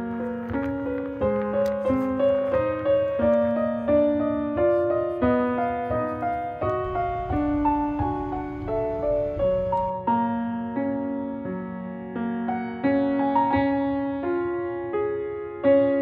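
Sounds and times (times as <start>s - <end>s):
piano melody over bass notes: 0.0s - 16.0s.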